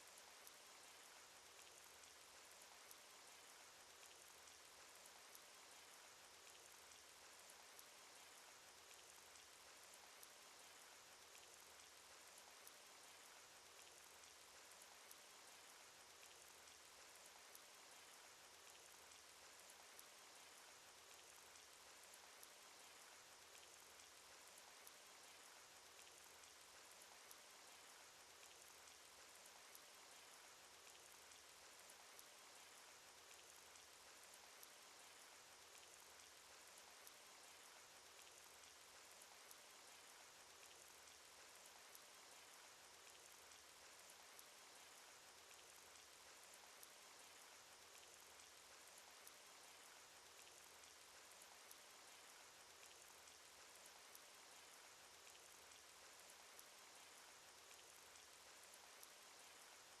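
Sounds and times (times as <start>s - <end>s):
rain patter: 0.0s - 60.0s
faint droplet ticks: 0.2s - 60.0s.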